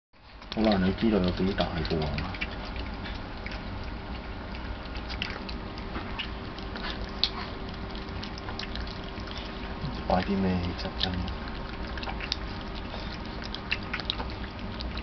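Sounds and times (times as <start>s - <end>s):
faint steady hum: 0.2s - 15.0s
puppies chewing kibble: 0.2s - 15.0s.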